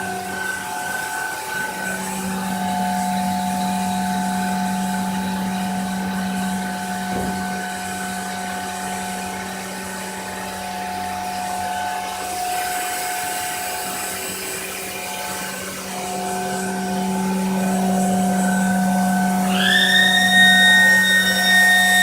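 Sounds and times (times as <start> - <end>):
machine spindle high whine: 0.0 - 22.0.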